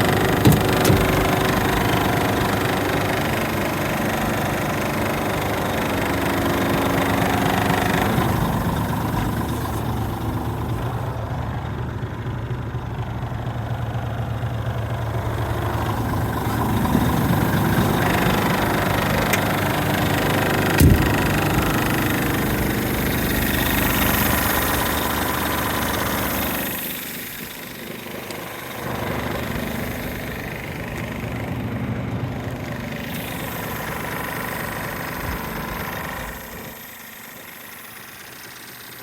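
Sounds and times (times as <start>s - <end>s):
truck diesel engine idling: 0.0s - 39.0s.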